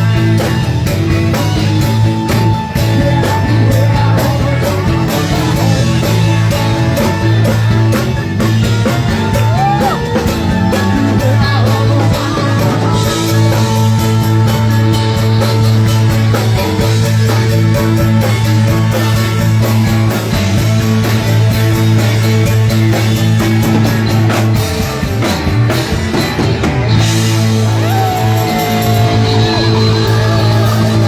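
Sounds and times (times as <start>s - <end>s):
bending guitar notes: 0.0s - 31.0s
rock band playing live: 0.0s - 31.0s.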